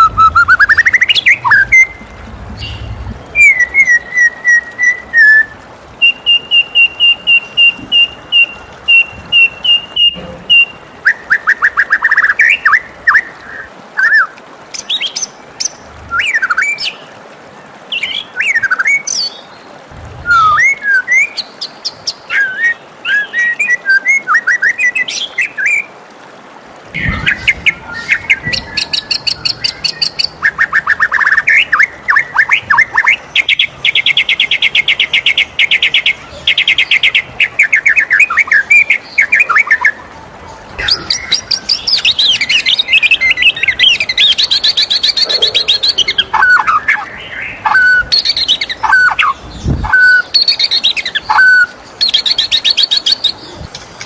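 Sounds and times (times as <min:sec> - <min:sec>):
bird singing trills and whistles: 0:00.0 - 0:17.0, 0:20.2 - 0:25.9, 0:27.0 - 0:40.0, 0:40.6 - 0:53.8.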